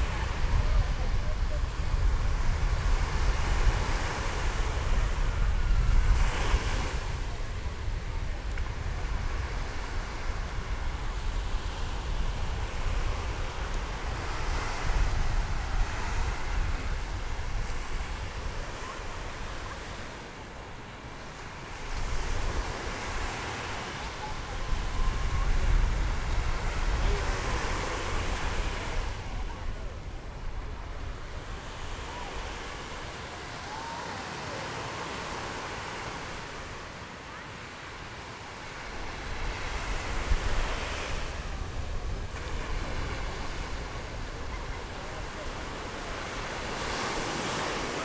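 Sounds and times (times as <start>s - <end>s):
wind rumbling on microphone: 0.0s - 20.0s, 21.8s - 33.1s, 38.8s - 48.0s
small waves breaking on beach: 0.0s - 48.0s.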